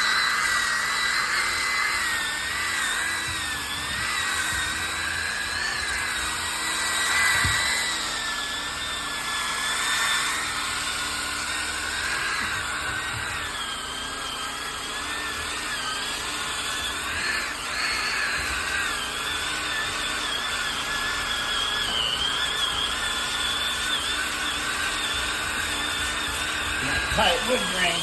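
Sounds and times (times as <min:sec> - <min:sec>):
power sander whining on wood: 0:00.0 - 0:28.0.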